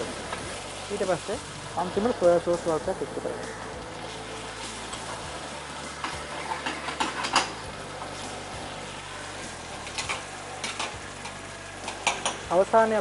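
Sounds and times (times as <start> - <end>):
sauce sizzling in a frying pan: 0.0 - 13.0.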